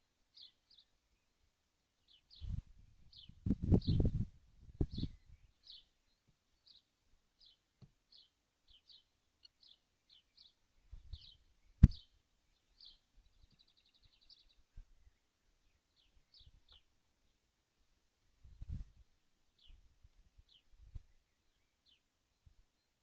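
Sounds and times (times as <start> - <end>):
bird chirping: 0.3 - 1.4, 2.0 - 4.2, 4.8 - 17.4, 19.5 - 23.0.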